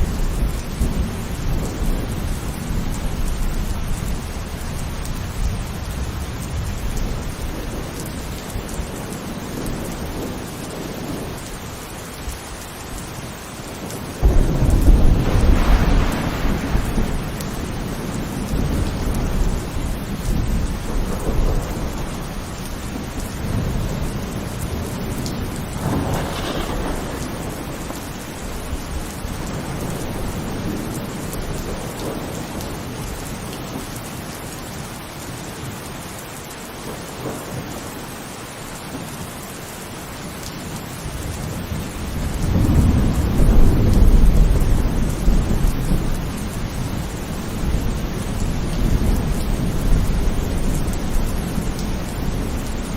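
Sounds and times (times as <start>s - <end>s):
thunder rumbling: 0.0s - 33.9s, 41.0s - 52.9s
heavy rain falling: 0.0s - 52.9s.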